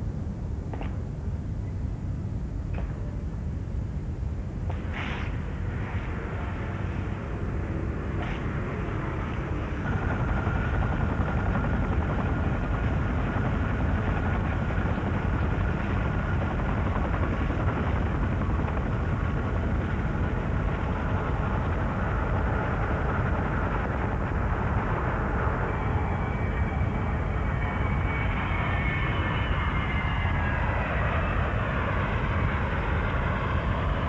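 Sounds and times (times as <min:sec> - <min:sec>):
helicopter rotor and engine noise: 0:00.0 - 0:34.0
high turbine whine: 0:00.0 - 0:34.0.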